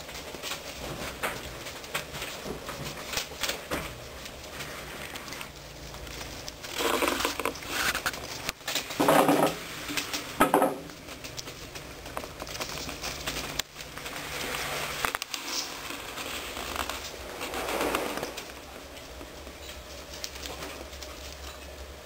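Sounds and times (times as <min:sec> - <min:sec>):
puppies pattering and scratching: 0:00.0 - 0:22.0.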